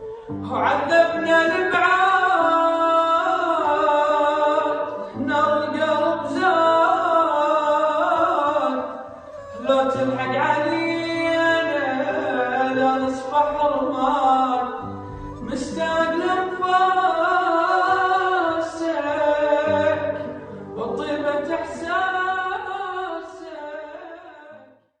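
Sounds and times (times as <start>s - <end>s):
person singing ornamented lines: 0.0s - 24.7s.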